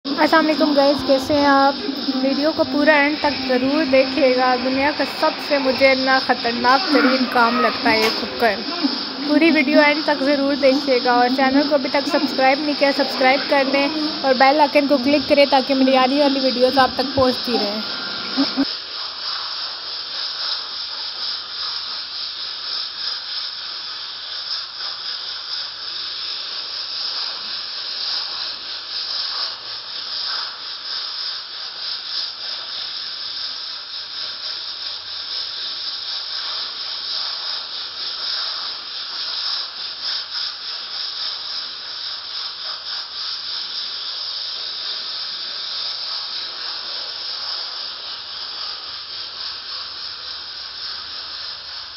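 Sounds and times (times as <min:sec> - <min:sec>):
pressure cooker steam hiss: 0:00.1 - 0:51.9.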